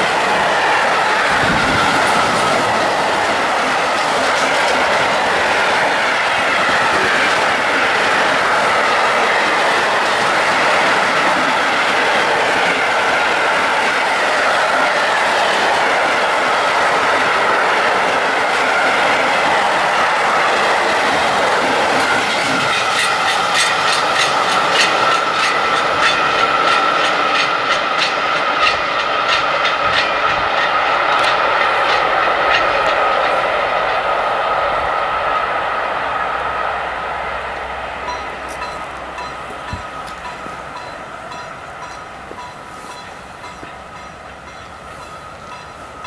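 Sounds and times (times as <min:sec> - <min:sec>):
freight train rumbling past: 0:00.0 - 0:46.0
wheels clicking over rail joints: 0:00.3 - 0:34.1, 0:37.5 - 0:46.0.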